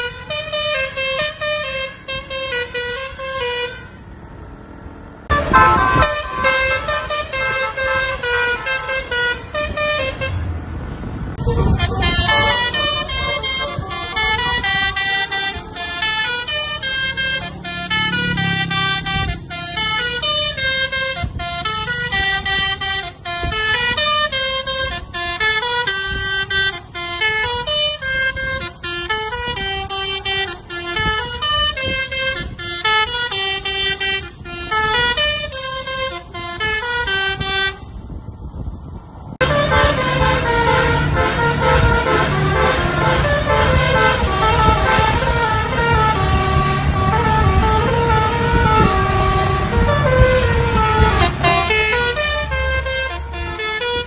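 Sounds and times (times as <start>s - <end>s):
multi-tone bus horn melody: 0.0s - 4.2s, 5.3s - 54.0s
road and engine rumble: 0.0s - 54.0s.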